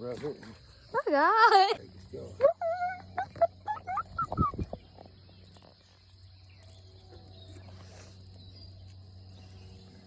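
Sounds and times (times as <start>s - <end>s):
constant low hum: 0.0s - 10.0s
crickets droning: 0.0s - 10.0s.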